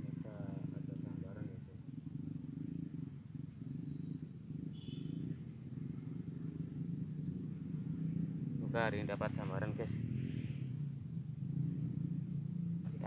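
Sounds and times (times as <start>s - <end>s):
low pulsing hum: 0.0s - 13.0s.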